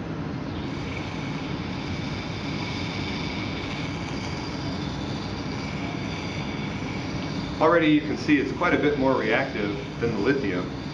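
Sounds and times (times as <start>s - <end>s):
low background rumble: 0.0s - 10.9s
high fizzing hiss: 0.6s - 10.9s.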